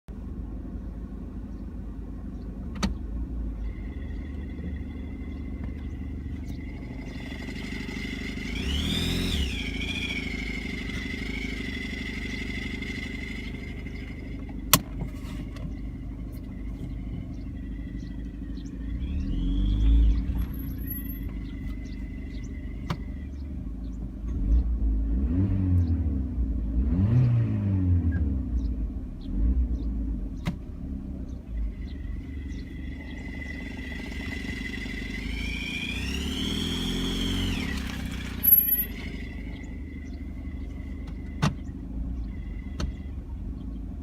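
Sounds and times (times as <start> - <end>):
car engine revving: 2.6 - 44.0.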